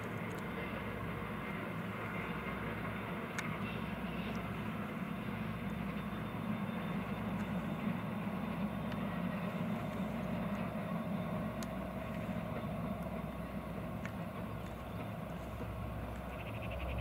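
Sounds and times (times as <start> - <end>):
distant diesel locomotive drone: 0.0 - 17.0.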